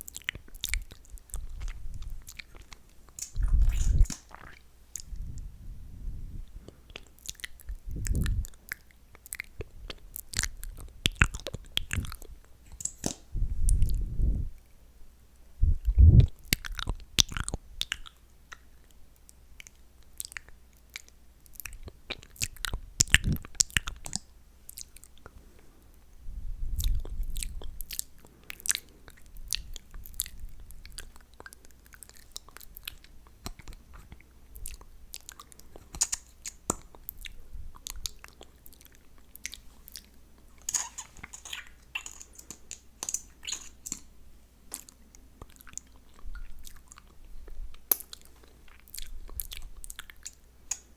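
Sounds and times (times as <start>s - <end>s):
wet mouth clicks and smacks: 0.0s - 5.5s, 6.8s - 14.4s, 15.8s - 18.6s, 19.6s - 25.3s, 26.7s - 44.1s, 44.7s - 50.9s.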